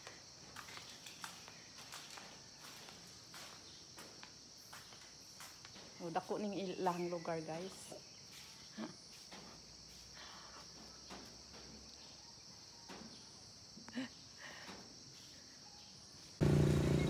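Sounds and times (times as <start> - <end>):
insects chirring: 0.0 - 16.4.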